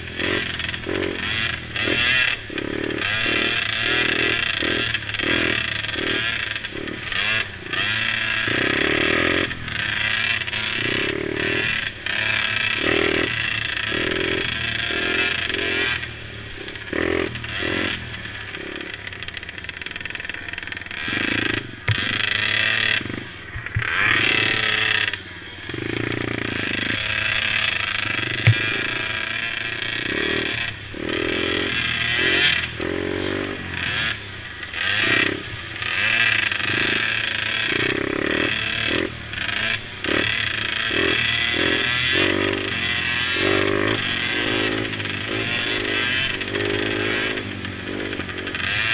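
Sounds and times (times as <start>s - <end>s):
mini quad engines racing: 0.0s - 48.9s.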